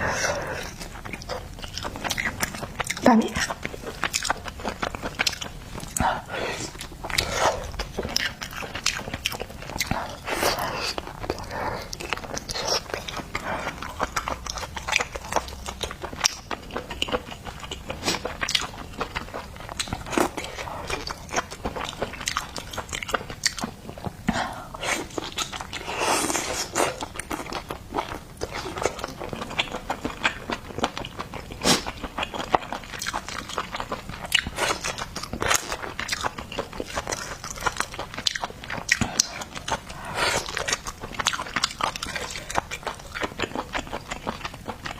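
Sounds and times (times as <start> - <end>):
crunching and wet chewing: 0.0 - 44.9.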